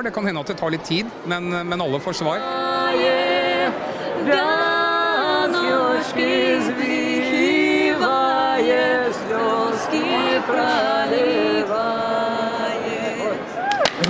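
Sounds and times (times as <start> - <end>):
group singing unaccompanied: 2.0 - 13.6.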